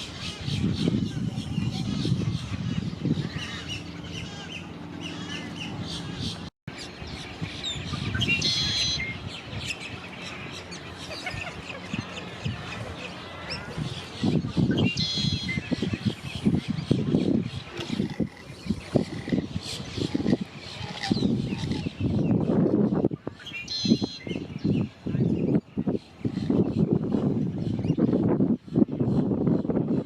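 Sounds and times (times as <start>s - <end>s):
birds chirping: 0.0s - 29.7s.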